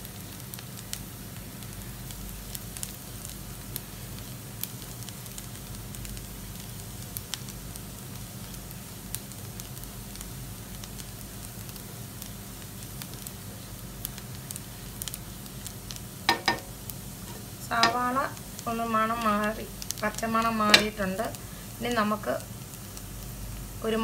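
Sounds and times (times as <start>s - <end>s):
onion and garlic sizzling: 0.0s - 24.0s.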